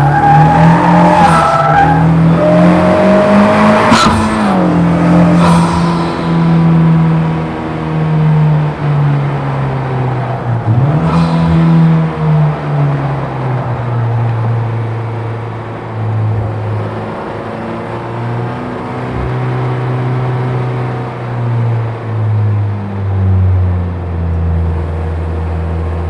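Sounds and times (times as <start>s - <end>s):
car engine running at low revs: 0.0s - 26.0s.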